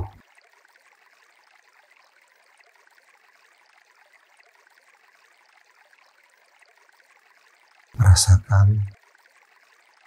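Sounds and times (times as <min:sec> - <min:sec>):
stream trickling: 0:00.0 - 0:10.0.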